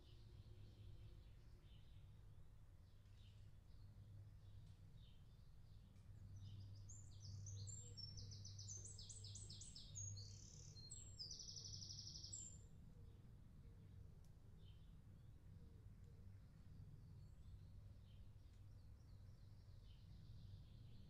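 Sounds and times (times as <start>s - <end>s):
songbird singing: 0.0s - 13.3s, 14.5s - 21.0s.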